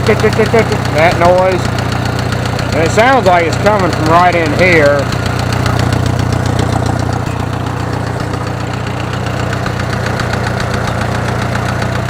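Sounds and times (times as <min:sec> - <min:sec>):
engine knocking: 0:00.0 - 0:12.0
tractor engine running: 0:00.0 - 0:12.0.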